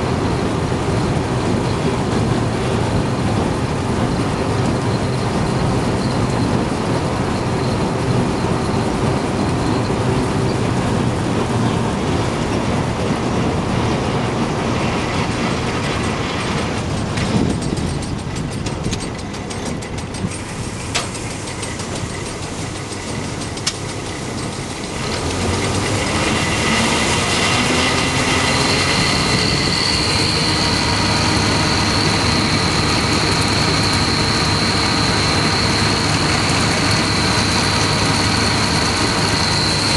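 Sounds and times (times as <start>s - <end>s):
combine harvester clatter and rumble: 0.0s - 39.9s
high steady whine: 0.0s - 39.9s
tractor engine hum: 0.0s - 39.9s.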